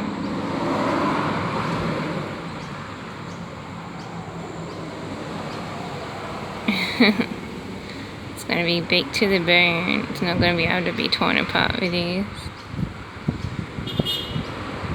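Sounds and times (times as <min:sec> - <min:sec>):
hiss of passing vehicles: 0:00.0 - 0:09.7, 0:12.3 - 0:14.9.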